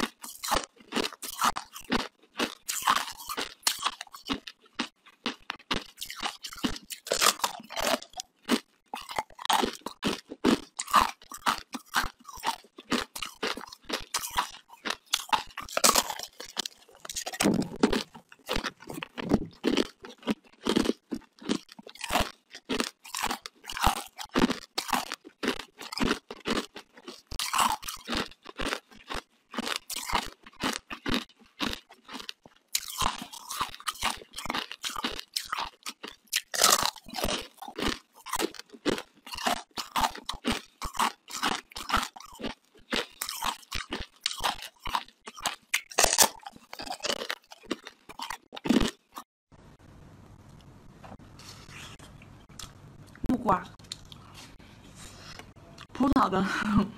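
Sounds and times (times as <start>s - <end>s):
chewing: 0.0s - 49.3s, 51.6s - 56.0s
ice crunching between teeth: 0.0s - 49.3s.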